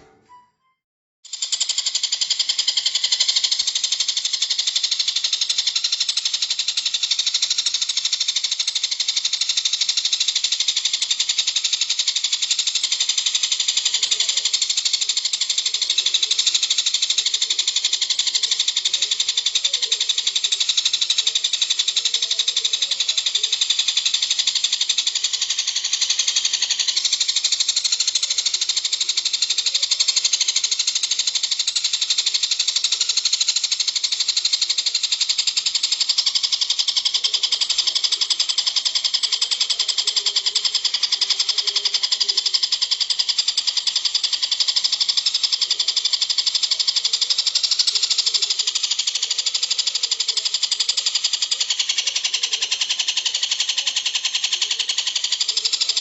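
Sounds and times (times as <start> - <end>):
songbird rattling trill: 1.3 - 56.0.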